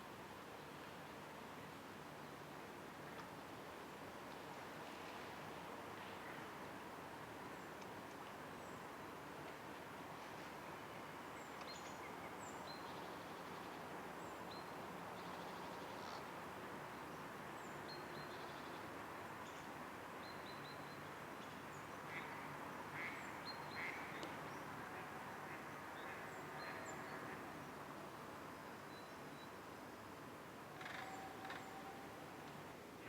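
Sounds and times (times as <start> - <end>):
soft steady hiss: 0.0 - 33.0.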